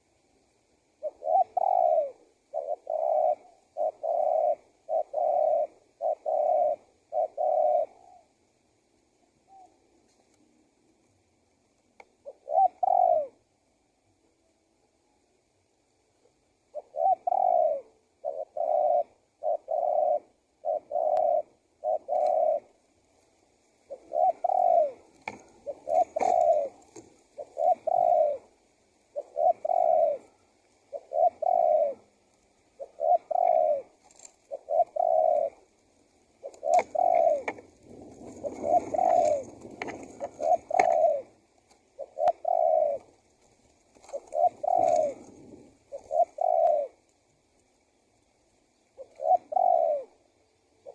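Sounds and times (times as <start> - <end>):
dove cooing: 0.0 - 0.2, 0.8 - 11.0, 11.9 - 14.6, 16.0 - 50.9.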